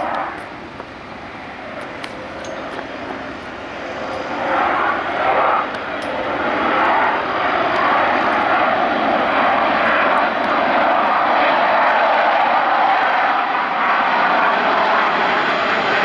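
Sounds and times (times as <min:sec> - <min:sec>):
jet roaring past: 0:00.0 - 0:16.0.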